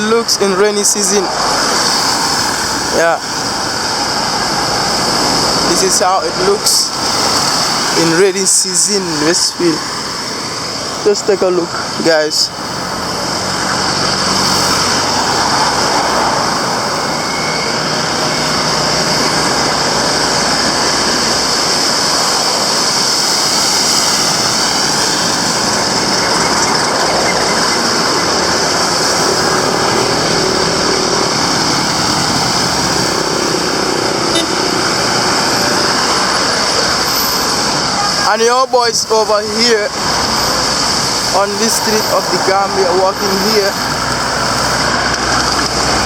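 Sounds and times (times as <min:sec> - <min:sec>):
street traffic passing: 0:00.0 - 0:46.0.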